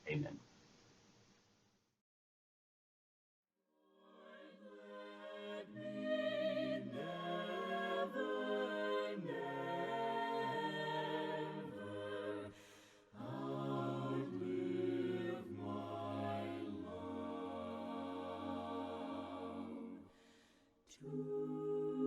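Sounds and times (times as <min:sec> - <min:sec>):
choir singing a hymn: 0:03.9 - 0:22.0.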